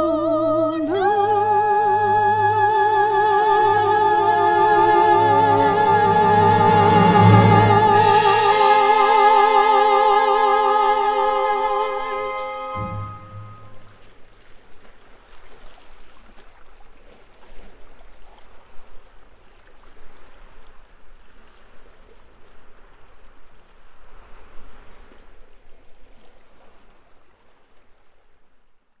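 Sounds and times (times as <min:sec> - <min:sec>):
water rushing and trickling: 0:01.0 - 0:28.3.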